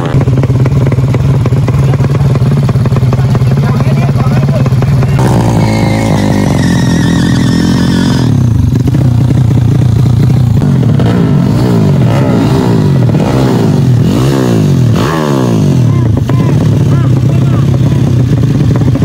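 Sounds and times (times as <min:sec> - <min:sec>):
low engine drone: 0:00.0 - 0:19.0
motorcycle engines revving: 0:00.0 - 0:19.0.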